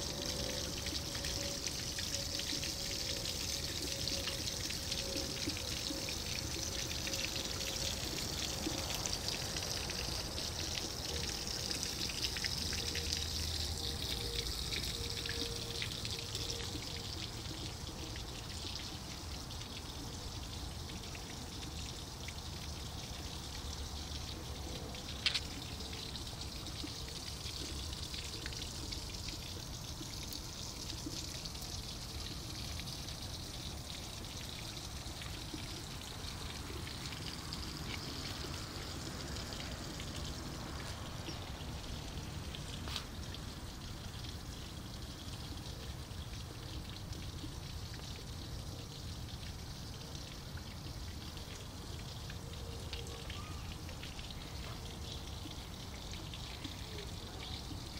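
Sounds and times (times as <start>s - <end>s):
water pouring from fountain: 0.0s - 57.9s.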